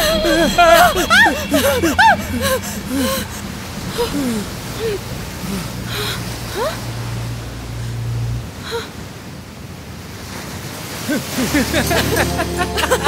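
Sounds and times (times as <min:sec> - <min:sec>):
low steady hum: 0:00.0 - 0:09.6, 0:11.4 - 0:13.0
sea surf: 0:00.0 - 0:13.0.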